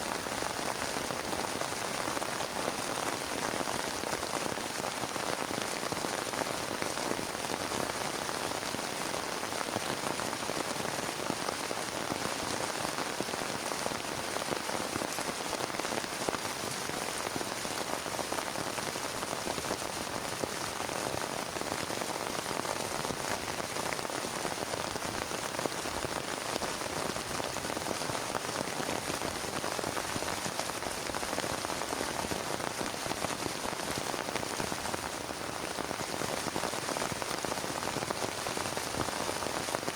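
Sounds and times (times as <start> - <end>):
heavy rain on plastic tarp: 0.0 - 39.9.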